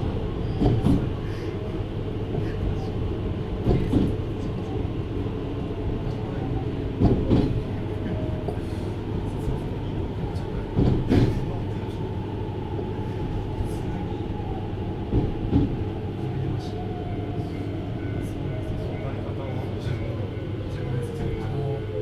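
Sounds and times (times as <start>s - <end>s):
train interior rumble: 0.0s - 22.0s.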